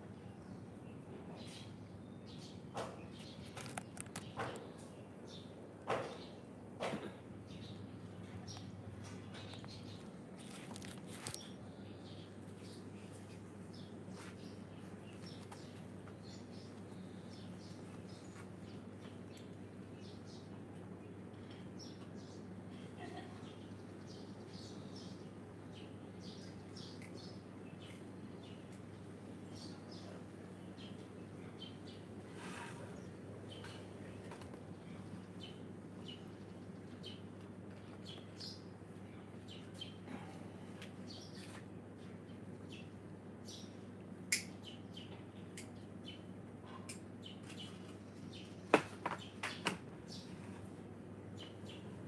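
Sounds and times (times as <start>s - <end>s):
low background hum: 0.0s - 52.0s
small birds chirping: 0.0s - 52.0s.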